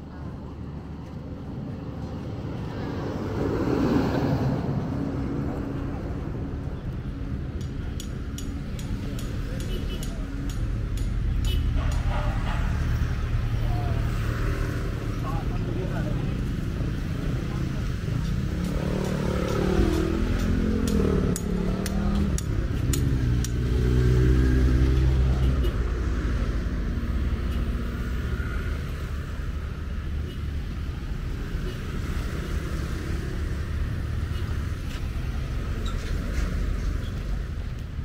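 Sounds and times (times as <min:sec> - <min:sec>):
low traffic rumble: 0:00.0 - 0:38.0
motor vehicles passing: 0:00.0 - 0:38.0.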